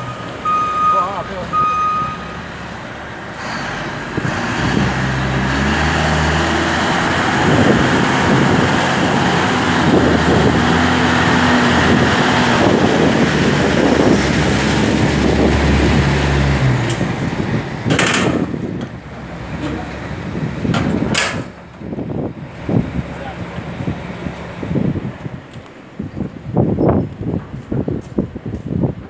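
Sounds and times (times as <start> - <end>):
diesel engine running: 0.0 - 27.6.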